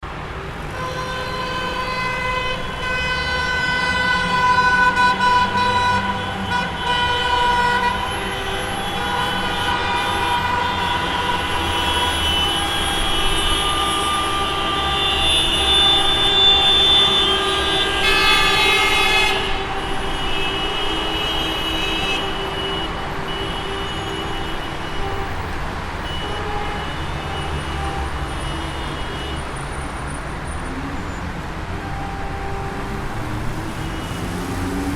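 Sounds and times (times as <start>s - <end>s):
car horns honking: 0.0s - 34.9s.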